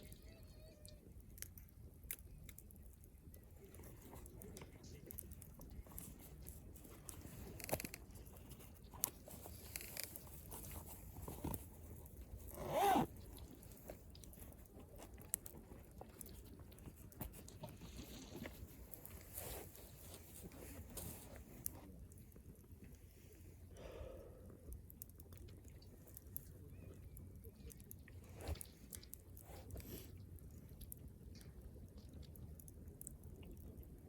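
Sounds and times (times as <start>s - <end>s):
campfire crackling: 0.8s - 34.0s.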